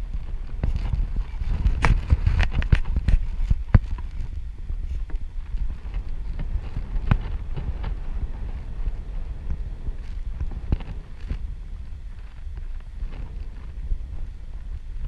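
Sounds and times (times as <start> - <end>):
sharp crackles and knocks: 0.0 - 15.0
wind buffeting microphone: 0.0 - 15.0.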